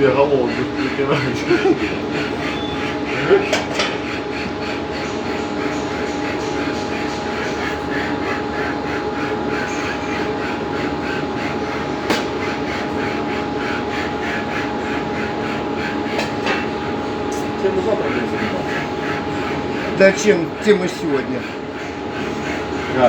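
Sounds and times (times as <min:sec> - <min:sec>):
cylinder head lapping strokes: 0:00.0 - 0:23.0
machinery hum: 0:00.0 - 0:23.0.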